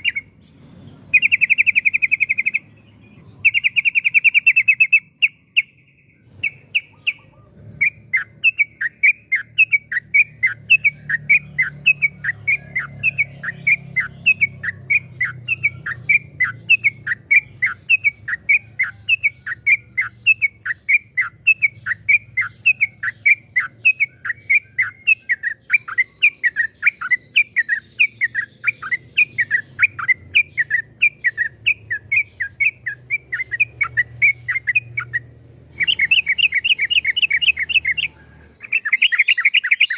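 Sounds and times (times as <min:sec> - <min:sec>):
bulbul singing falling notes: 0:00.0 - 0:39.9.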